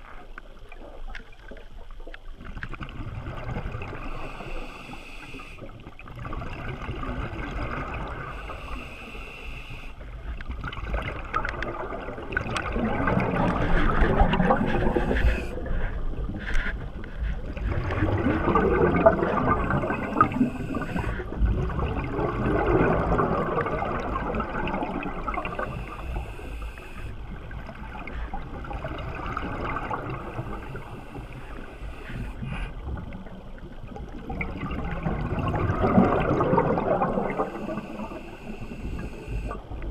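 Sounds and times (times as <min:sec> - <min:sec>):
underwater air bubbles gurgling: 0:00.0 - 0:39.9.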